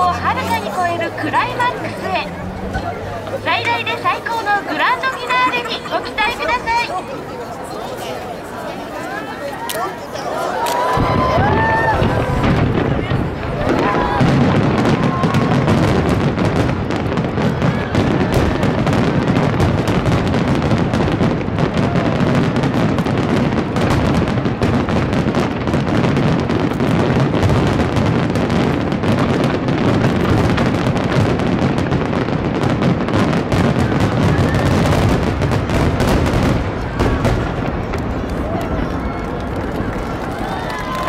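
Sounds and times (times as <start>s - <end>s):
fireworks booming and crackling: 0.0s - 8.4s, 10.7s - 41.0s.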